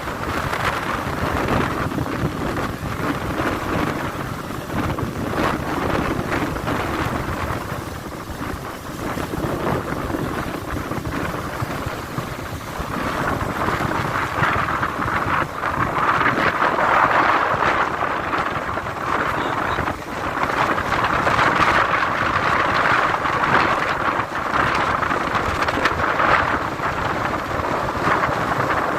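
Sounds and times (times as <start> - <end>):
gusty wind buffeting microphone: 0.0 - 28.9.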